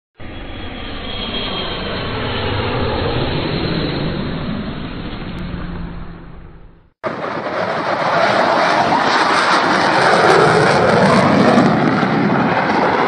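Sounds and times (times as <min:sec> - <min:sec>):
jet engine rushing: 0:00.2 - 0:13.0.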